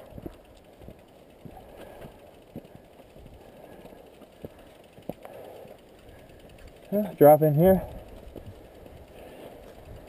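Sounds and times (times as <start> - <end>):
footsteps on dirt trail: 0.0 - 6.9, 7.8 - 10.0
bike hub ticking: 0.0 - 10.0.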